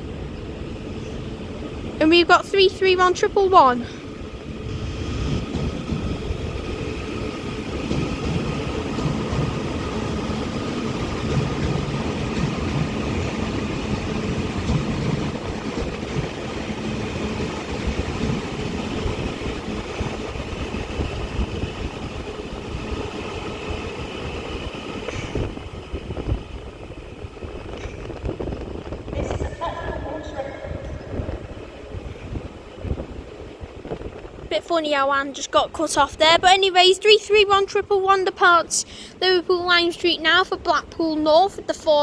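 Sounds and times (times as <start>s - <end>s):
electric train whine: 0.0s - 42.0s
train rumbling on track: 0.0s - 42.0s.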